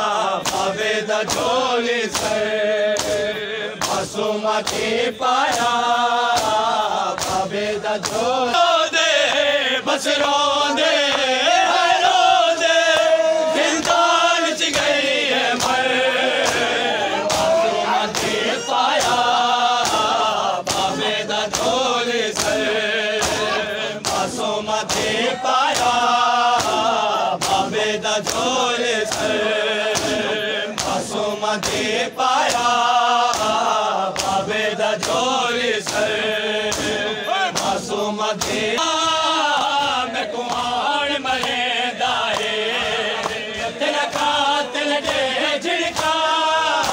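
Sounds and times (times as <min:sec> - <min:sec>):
hands slapping on chests: 0:00.0 - 0:46.9
men chanting in unison: 0:00.0 - 0:46.9
person reciting lead chant: 0:00.0 - 0:46.9.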